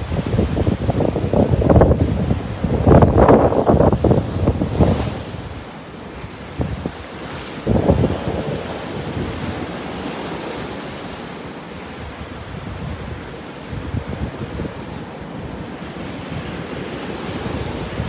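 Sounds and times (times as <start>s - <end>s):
wind buffeting microphone: 0.0s - 10.4s, 12.0s - 18.0s
surf washing up a beach: 0.0s - 18.0s.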